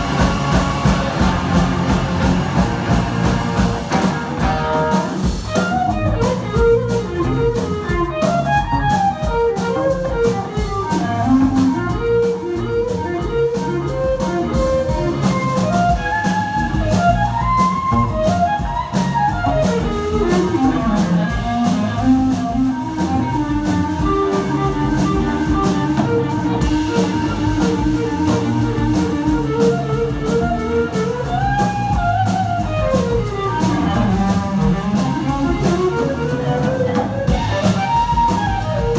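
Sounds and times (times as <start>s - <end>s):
drum kit beat: 0.0s - 38.9s
guitar: 0.0s - 38.9s
live band playing: 0.0s - 38.9s
sliding instrumental lead line: 0.0s - 38.9s.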